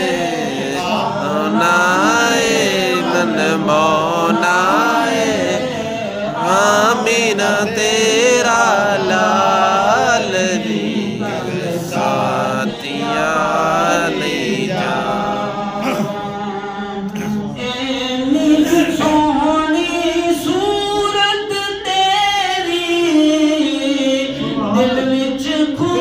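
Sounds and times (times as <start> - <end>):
man singing into a microphone: 0.0 - 16.2, 17.1 - 26.0.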